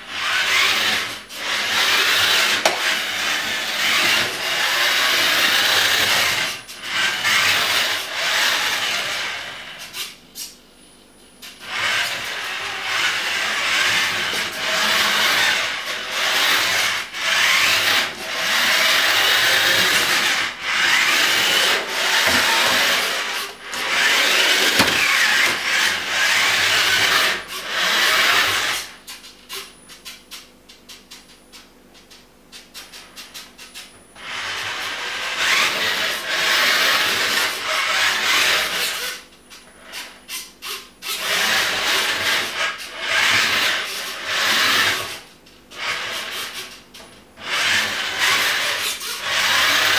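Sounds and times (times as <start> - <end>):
toy car motor whirring: 0.0 - 10.6, 11.4 - 49.9.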